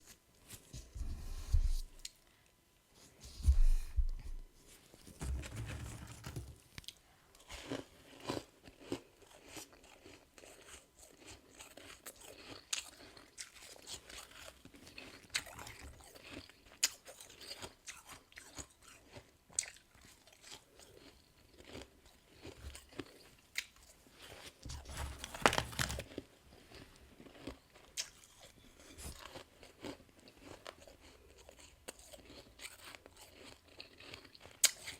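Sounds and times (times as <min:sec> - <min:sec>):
person chewing crunchy frost: 0:06.8 - 0:34.9.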